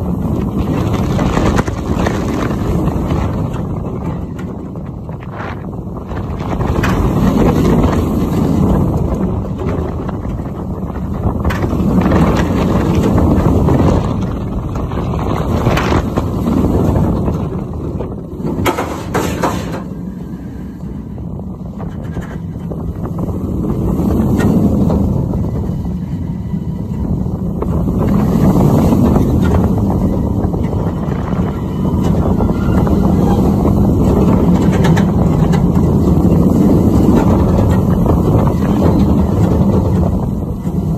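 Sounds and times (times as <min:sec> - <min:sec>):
roller coaster wheels rumbling: 0:00.0 - 0:40.9
wind buffeting microphone: 0:00.0 - 0:40.9.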